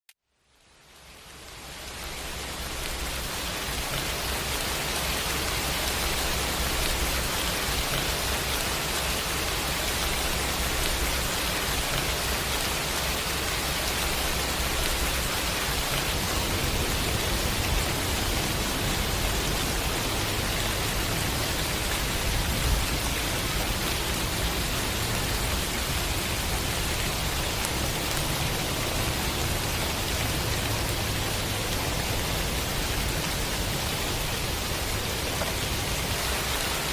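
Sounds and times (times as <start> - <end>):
steady rain hissing: 0.2 - 36.9.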